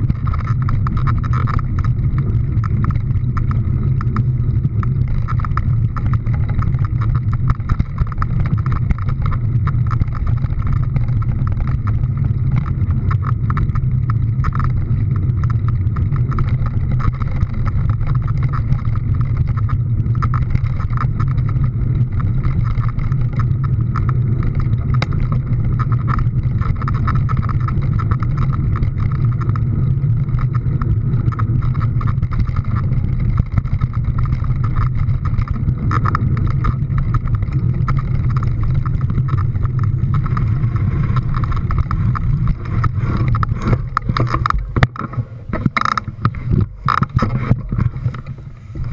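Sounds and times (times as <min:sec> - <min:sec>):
motor vehicle drone: 0:00.0 - 0:48.9.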